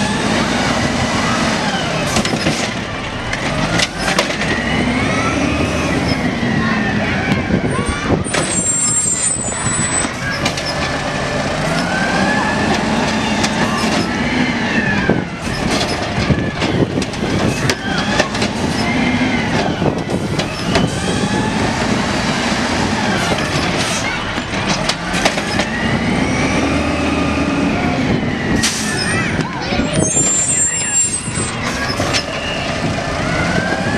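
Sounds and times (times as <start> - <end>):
carts clanking: 0.0 - 33.9
truck engine and hydraulics revving: 0.0 - 33.9.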